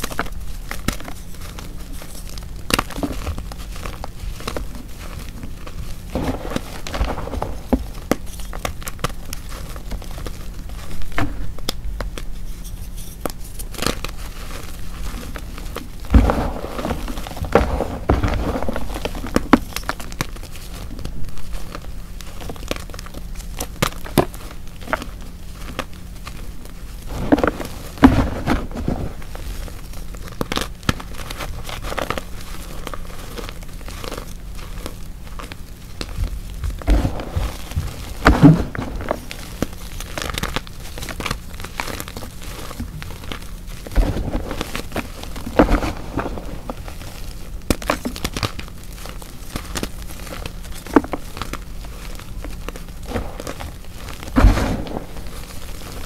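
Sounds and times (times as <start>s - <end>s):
chalk crunching and crackling: 0.0s - 56.0s.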